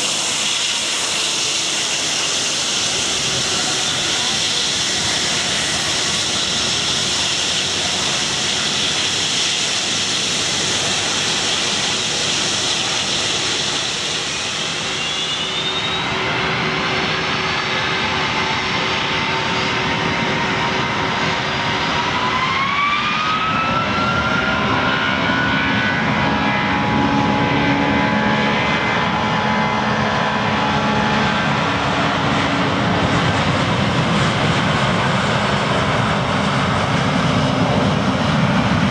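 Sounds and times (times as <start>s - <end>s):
jet engine hiss: 0.0s - 38.9s
jet engines spooling up: 0.0s - 38.9s.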